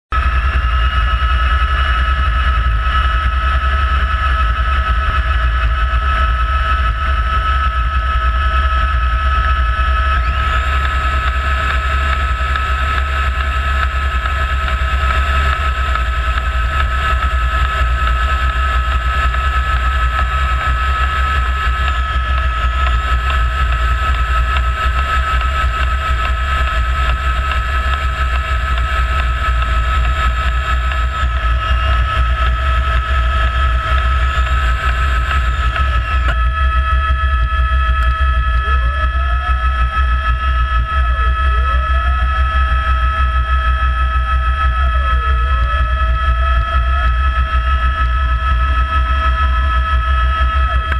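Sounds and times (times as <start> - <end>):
helicopter engine and rotor: 0.1 - 50.9.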